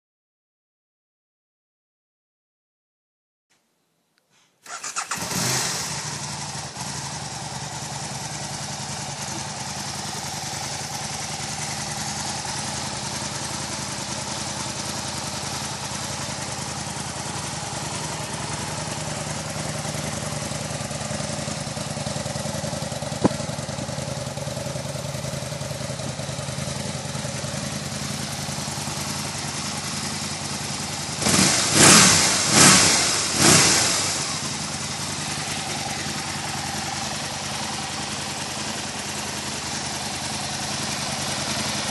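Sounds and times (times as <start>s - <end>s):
motorcycle engine starting and idling: 4.6s - 41.9s.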